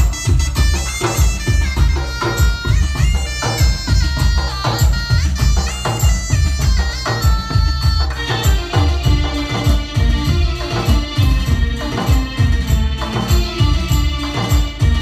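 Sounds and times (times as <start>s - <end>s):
heavy drum beat: 0.0s - 15.0s
held-note lead melody: 0.0s - 15.0s.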